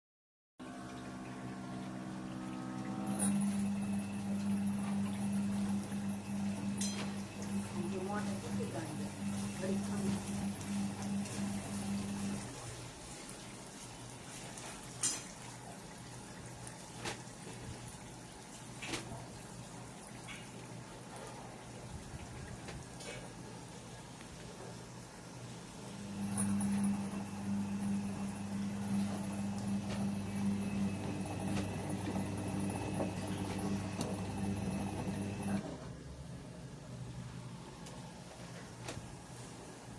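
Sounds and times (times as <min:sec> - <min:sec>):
washing machine running: 0:00.6 - 0:39.9.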